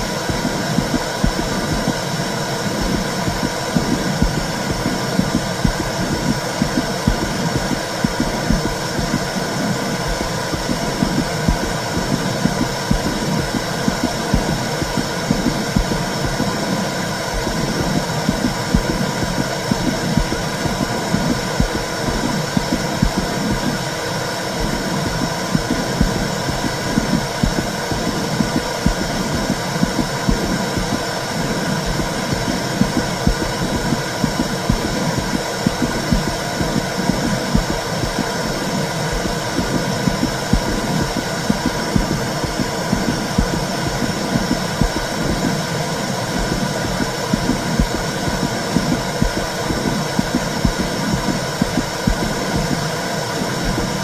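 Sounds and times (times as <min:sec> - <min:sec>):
low heartbeat-like throbbing: 0:00.0 - 0:23.9, 0:24.6 - 0:54.0.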